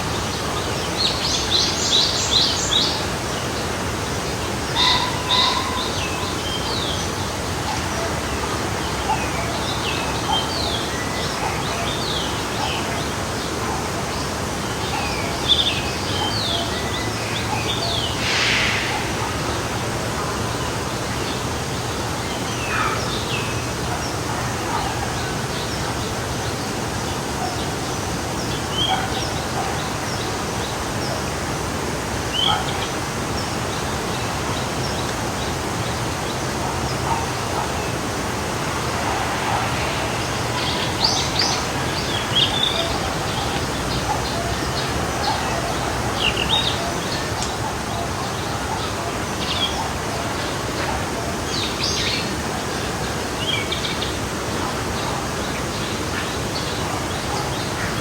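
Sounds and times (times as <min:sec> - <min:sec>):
songbirds chirping: 0:00.0 - 0:58.0
stream running: 0:00.0 - 0:58.0.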